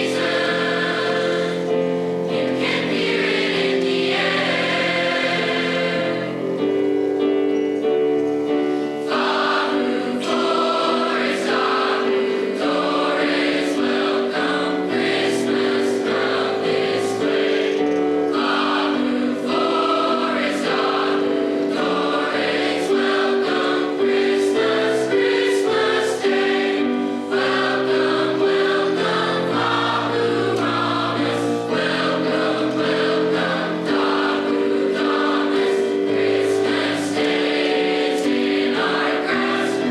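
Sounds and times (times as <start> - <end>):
choir singing in parts: 0.0 - 39.9.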